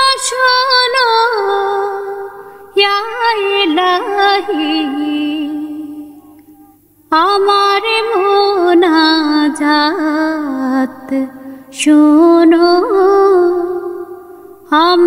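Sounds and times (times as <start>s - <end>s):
person singing devotional song: 0.0s - 15.0s.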